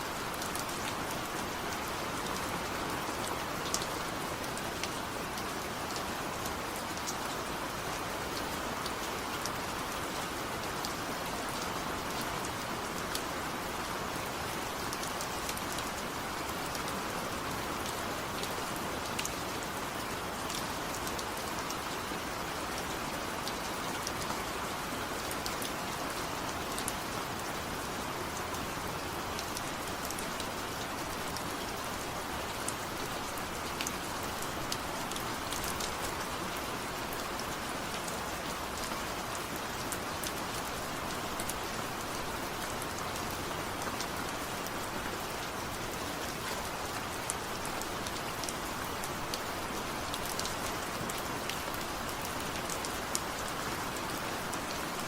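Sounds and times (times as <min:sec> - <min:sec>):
steady rain falling: 0:00.0 - 0:55.0
raindrops ticking on a surface: 0:00.1 - 0:55.0.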